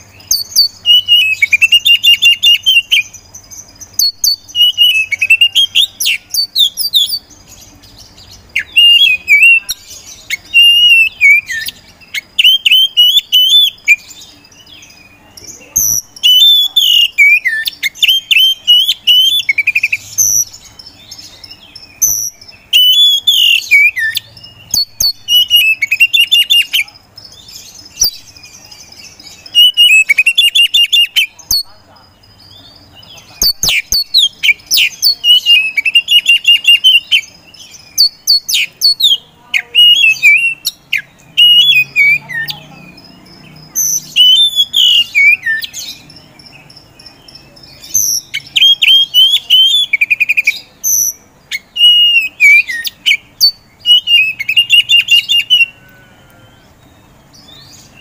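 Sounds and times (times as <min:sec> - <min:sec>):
magpie-robin singing: 0:00.0 - 0:58.0.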